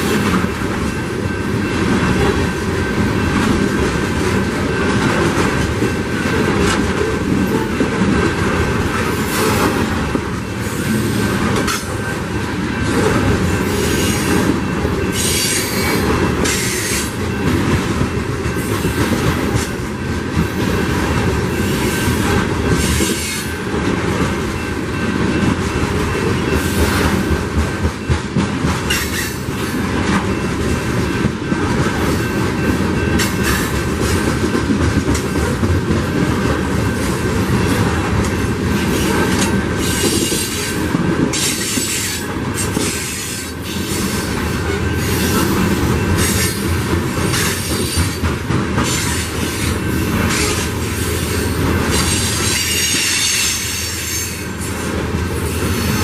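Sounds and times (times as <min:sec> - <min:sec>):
train wheels rumbling and clacking: 0:00.0 - 0:56.0.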